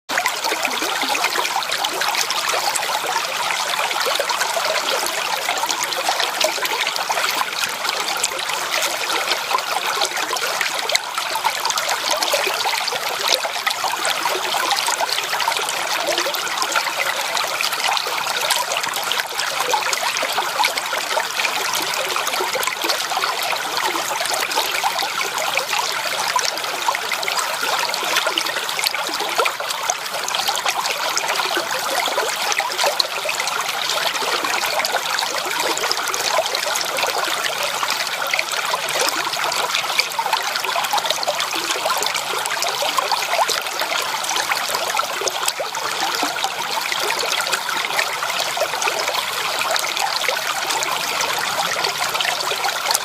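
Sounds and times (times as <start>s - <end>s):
creek water trickling over stones: 0.1s - 53.0s.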